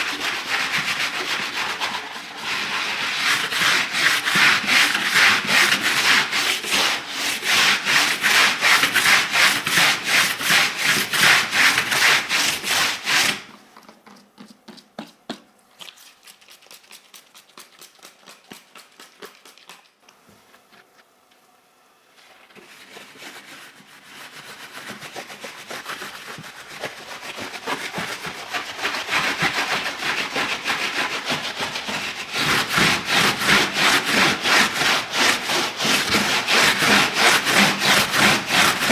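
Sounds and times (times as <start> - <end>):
scrubbing a keyboard: 0.0 - 13.5, 15.8 - 20.0, 22.2 - 38.9.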